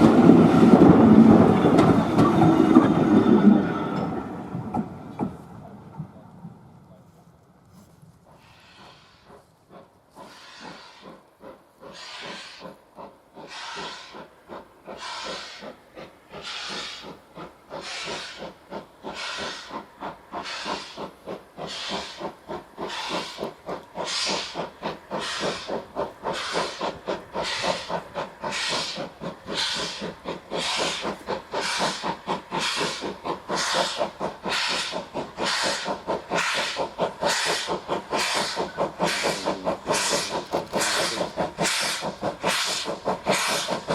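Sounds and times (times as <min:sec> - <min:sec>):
steam locomotive exhaust chuffing: 0:00.0 - 0:05.5, 0:08.2 - 0:43.9.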